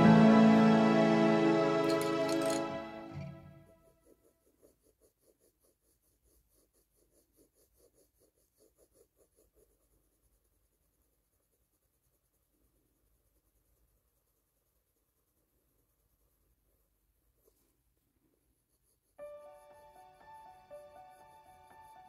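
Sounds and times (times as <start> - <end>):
colored pencil scratching paper: 3.6 - 22.0.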